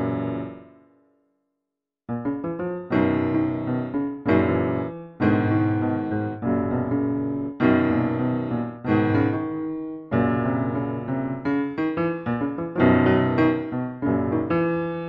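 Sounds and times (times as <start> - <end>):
electric piano chords: 0.0 - 0.8, 2.1 - 15.0.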